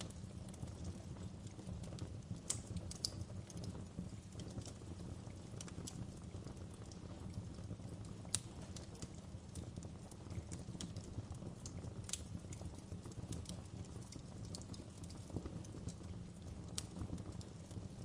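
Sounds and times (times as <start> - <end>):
low rumble of burning fire: 0.0 - 18.0
wood fire popping and snapping: 0.0 - 18.0.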